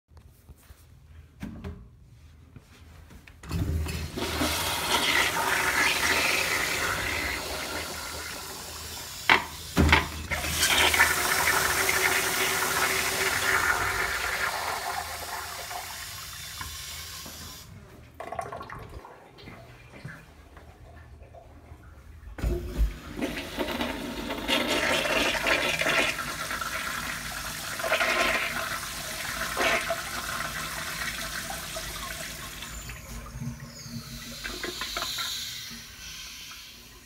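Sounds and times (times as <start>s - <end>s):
toilet flushing: 3.5s - 37.0s.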